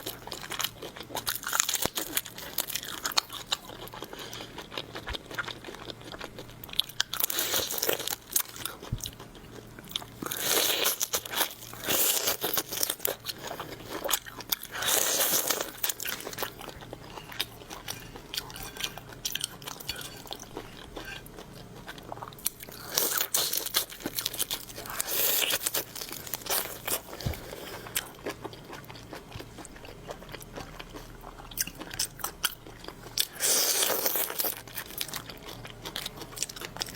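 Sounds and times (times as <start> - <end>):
quiet chewing: 0.0 - 36.9.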